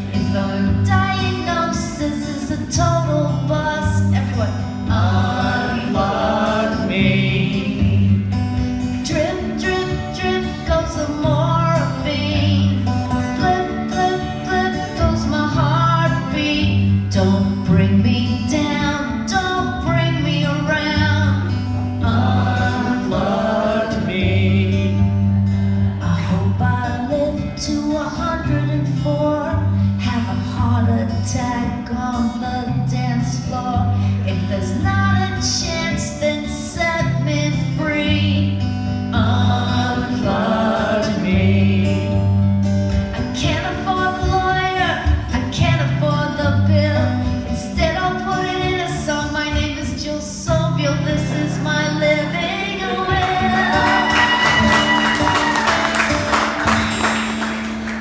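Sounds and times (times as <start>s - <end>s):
woman singing: 0.0s - 25.1s, 26.0s - 42.3s, 43.2s - 55.8s.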